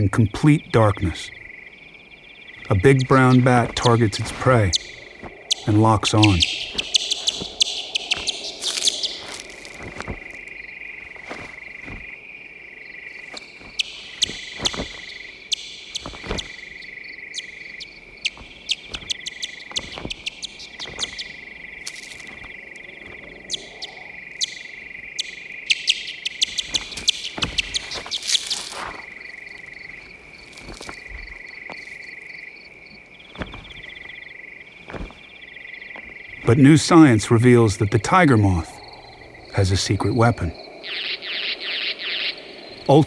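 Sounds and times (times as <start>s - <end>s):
bat echolocation chirps: 0.0s - 43.0s.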